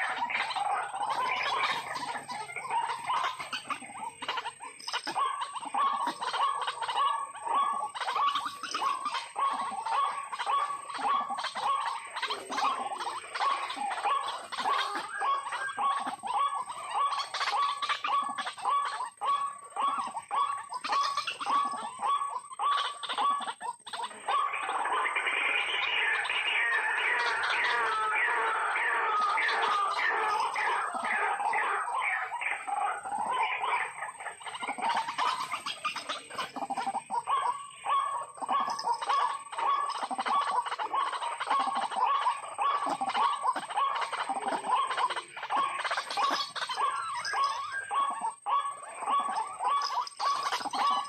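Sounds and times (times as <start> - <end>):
bird harsh repeated calls: 0.0 - 51.0
waterhen croaking and chattering: 0.0 - 51.0.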